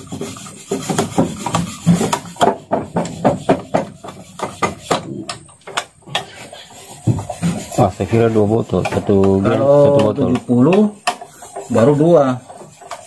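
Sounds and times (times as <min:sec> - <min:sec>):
hand rubbing or scraping strokes: 0:00.0 - 0:13.0.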